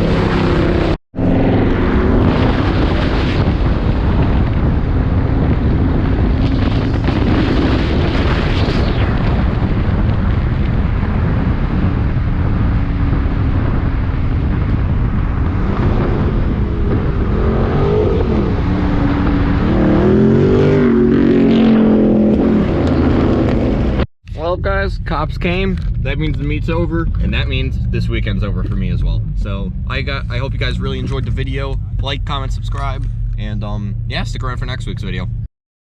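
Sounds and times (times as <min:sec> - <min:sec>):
engine revving: 0:00.0 - 0:09.6, 0:11.1 - 0:24.1, 0:24.8 - 0:35.4
car engines rumbling: 0:00.0 - 0:35.5.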